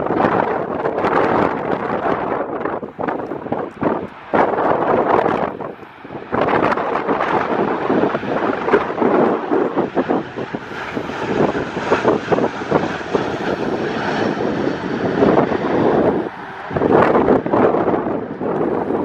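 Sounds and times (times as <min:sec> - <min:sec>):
jet engines landing: 0:00.0 - 0:19.0
wind buffeting microphone: 0:00.0 - 0:19.0.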